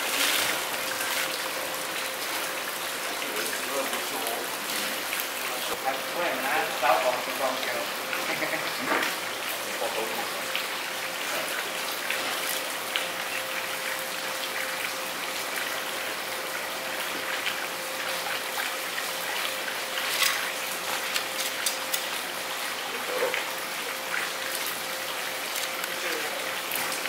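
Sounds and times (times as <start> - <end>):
running water hiss: 0.0 - 27.0.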